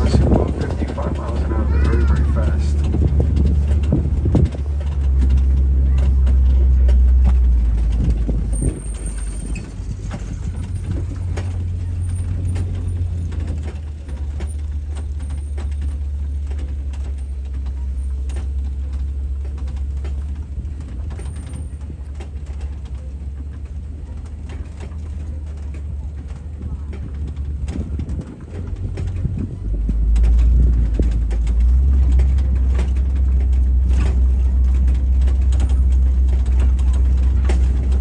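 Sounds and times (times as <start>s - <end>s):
low engine rumble: 0.0s - 38.0s
rattles and knocks: 0.0s - 38.0s.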